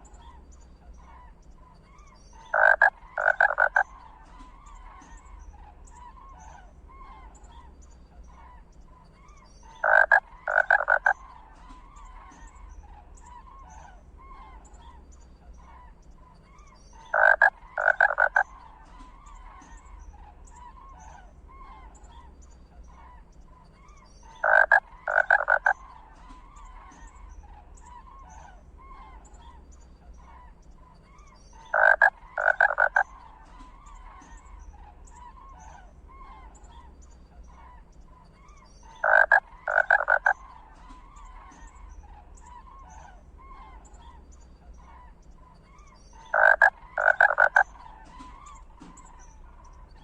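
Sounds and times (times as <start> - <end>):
rapid rattling calls: 0.0 - 50.0
small animal calls: 0.0 - 50.0.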